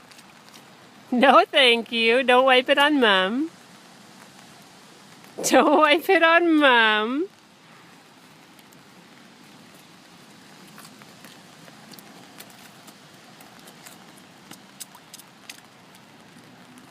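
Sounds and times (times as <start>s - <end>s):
soft steady hiss: 0.0s - 16.9s
water dripping and splashing: 0.0s - 16.9s.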